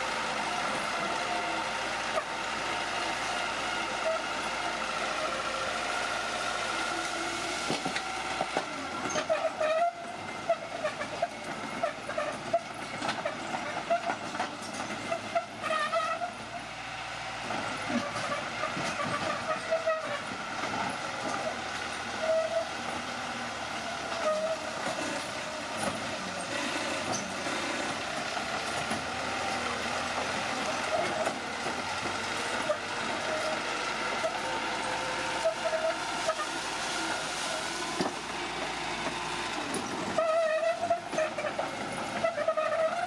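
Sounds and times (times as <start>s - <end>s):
crawler tracks squealing and clanking: 0.0s - 16.8s, 17.4s - 43.0s
bulldozer engine running: 0.0s - 43.0s.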